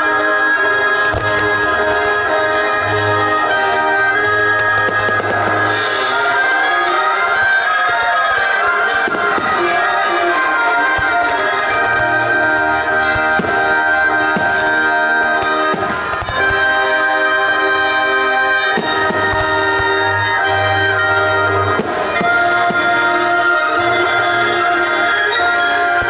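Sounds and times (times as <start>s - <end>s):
orchestral music with brass: 0.0s - 26.0s
firework bangs: 0.9s - 26.0s.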